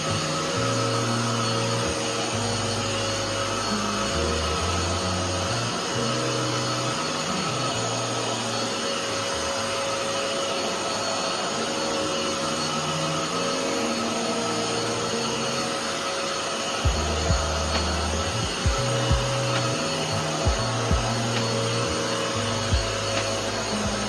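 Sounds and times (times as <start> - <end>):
background music: 0.0 - 24.0
floor cleaner motor hum and whine: 0.0 - 24.0.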